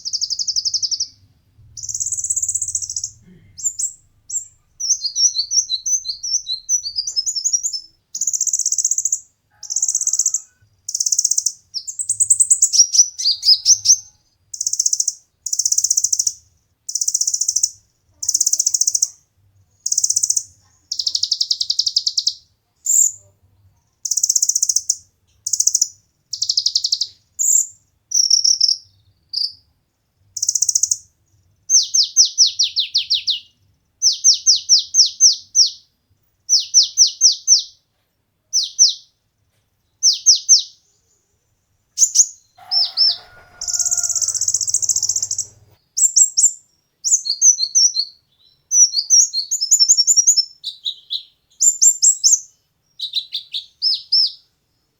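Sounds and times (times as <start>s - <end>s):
sunbird singing: 0.0s - 19.2s, 19.8s - 23.2s, 24.0s - 29.6s, 31.7s - 35.9s, 40.0s - 41.3s, 42.0s - 54.5s.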